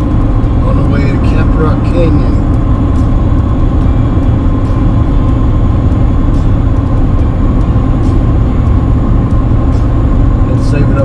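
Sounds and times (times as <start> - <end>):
truck road and engine rumble: 0.0 - 11.0.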